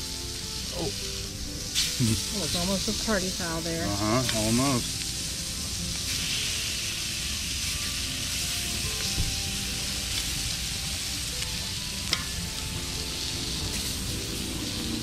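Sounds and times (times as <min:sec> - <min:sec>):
chicken wings sizzling on grill: 0:00.0 - 0:15.0.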